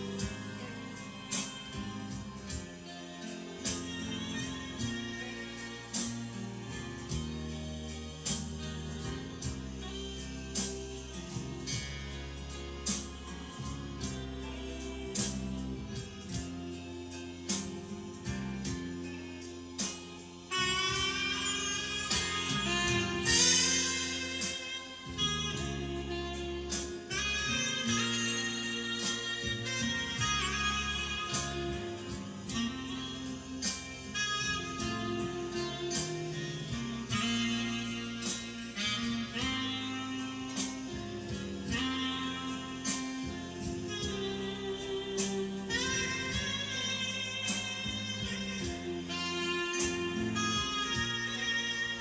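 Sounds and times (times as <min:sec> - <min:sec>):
instrumental background music: 0:00.0 - 0:52.0.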